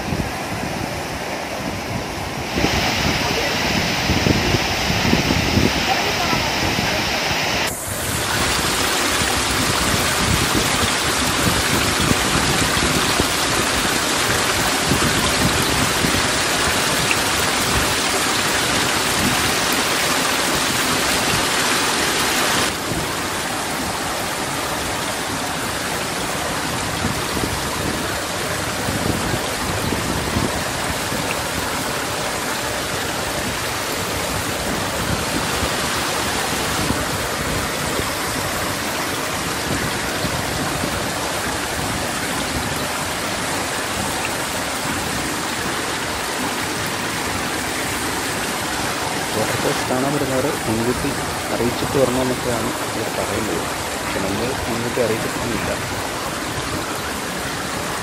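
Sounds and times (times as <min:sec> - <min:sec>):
rain and running water: 0:00.0 - 0:58.0
waterfall rushing into pool: 0:00.0 - 0:58.0.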